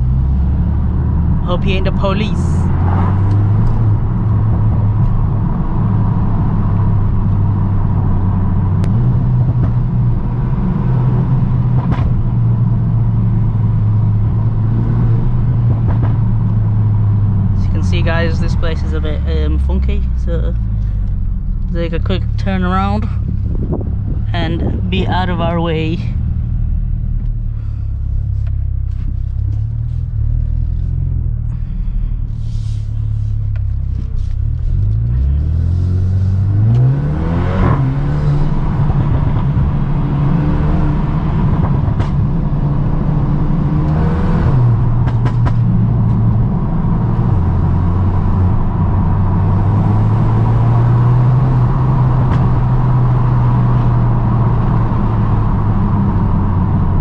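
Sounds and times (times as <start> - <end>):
car engine revving: 0.0 - 57.0
exhaust cracks: 0.0 - 57.0.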